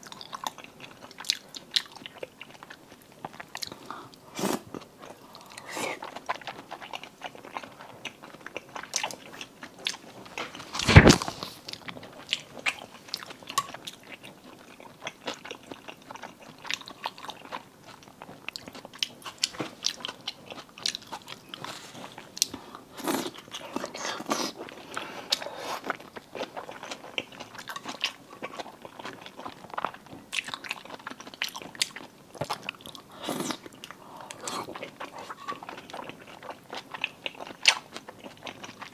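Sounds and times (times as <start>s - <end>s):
chewing and crunching seafood: 0.0s - 38.9s.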